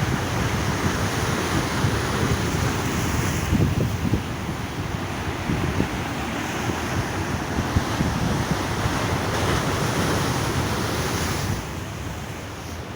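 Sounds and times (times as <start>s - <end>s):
waves breaking on rocks: 0.0s - 12.9s
wind buffeting microphone: 0.0s - 12.9s.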